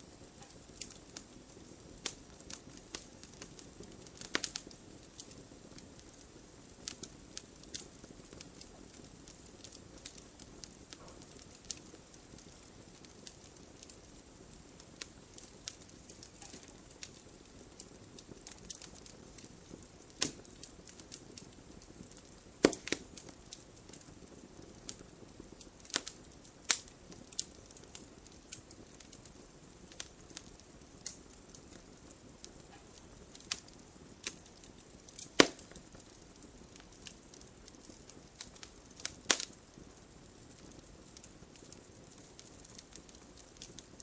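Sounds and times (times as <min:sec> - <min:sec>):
faint steady hiss: 0:00.0 - 0:44.0
wood fire crackling: 0:00.0 - 0:44.0.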